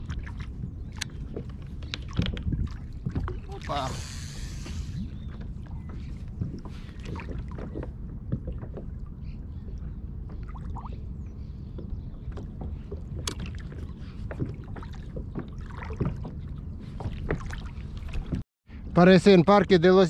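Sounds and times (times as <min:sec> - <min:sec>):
water splashing against hull: 0:00.0 - 0:18.4.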